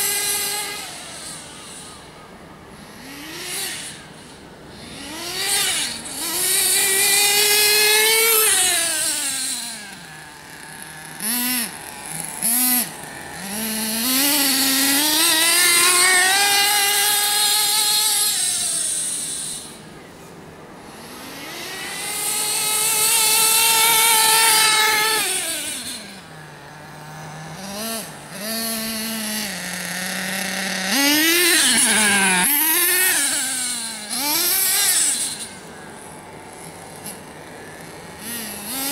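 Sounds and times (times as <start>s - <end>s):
radio-controlled car motor revving: 0.0s - 2.1s, 2.7s - 19.9s, 20.8s - 38.9s.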